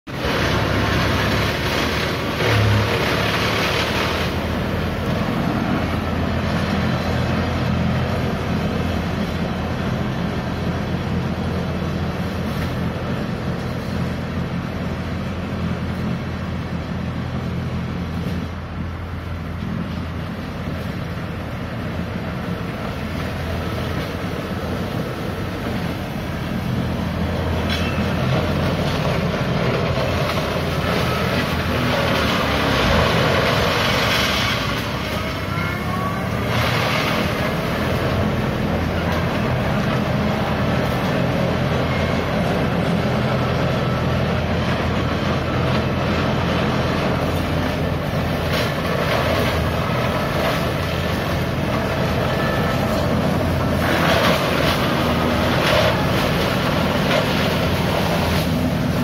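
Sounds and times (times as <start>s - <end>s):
tractor engine under load: 0.0s - 59.0s
rotary implement shredding fronds: 0.1s - 59.0s.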